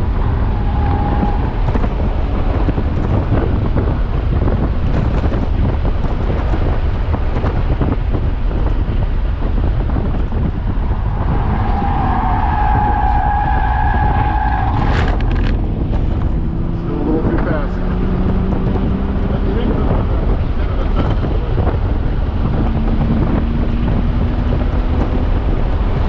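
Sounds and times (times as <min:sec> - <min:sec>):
car engine in cabin: 0:00.0 - 0:26.0.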